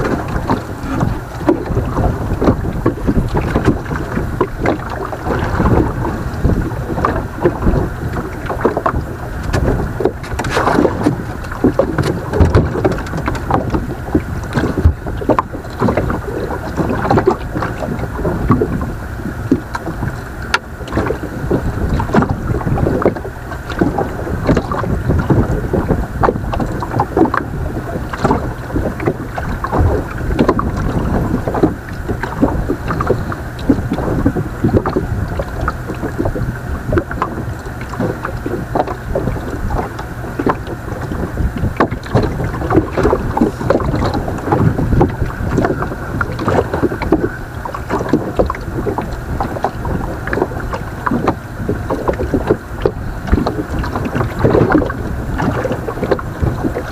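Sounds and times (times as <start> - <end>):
water slapping against boat hull: 0.0 - 56.9
wind buffeting microphone: 0.0 - 56.9.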